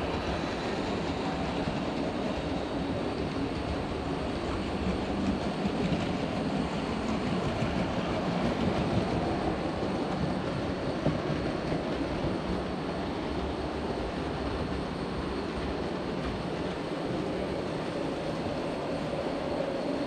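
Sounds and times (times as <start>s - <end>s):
model trains rumbling on track: 0.0s - 20.0s.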